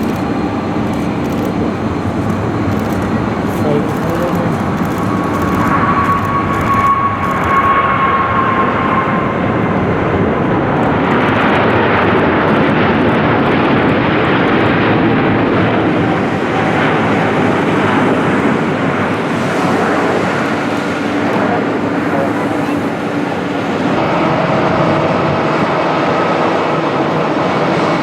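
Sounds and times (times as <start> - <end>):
jet engines passing: 0.0 - 28.0.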